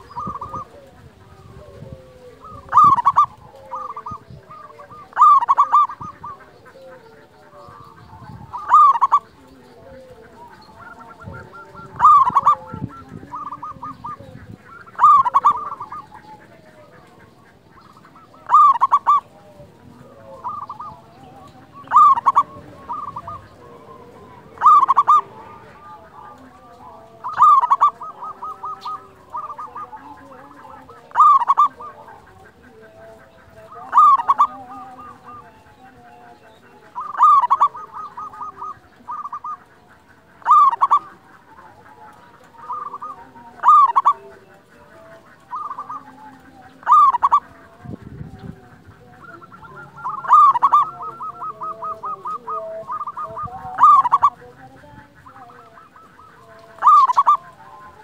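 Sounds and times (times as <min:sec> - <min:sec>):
dove cooing song: 0:00.0 - 0:58.0.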